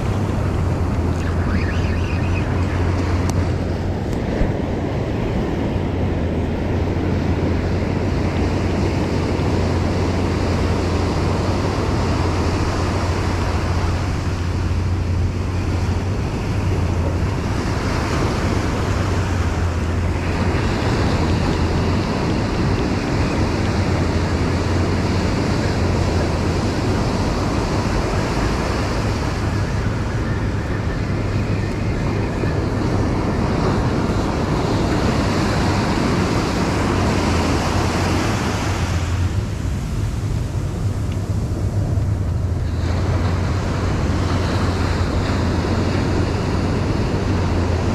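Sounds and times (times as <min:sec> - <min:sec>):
ocean surf breaking on beach: 0:00.0 - 0:47.9
wind buffeting microphone: 0:00.0 - 0:47.9.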